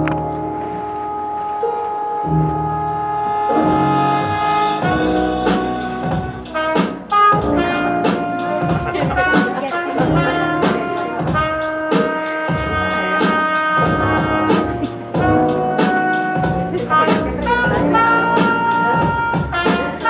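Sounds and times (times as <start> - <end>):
brass playing melody: 0.0 - 20.0
drum kit cymbal beat: 3.5 - 20.0.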